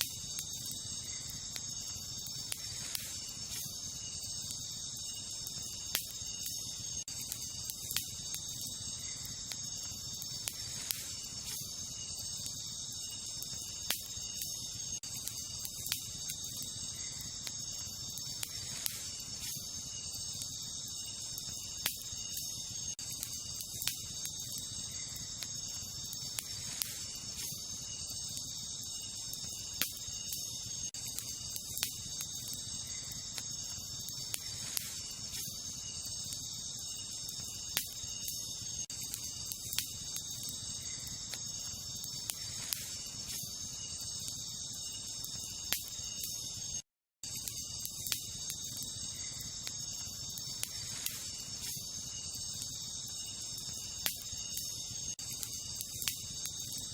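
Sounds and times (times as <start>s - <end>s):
campfire crackling and popping: 0.0s - 56.9s
night insects chirping: 0.0s - 56.9s.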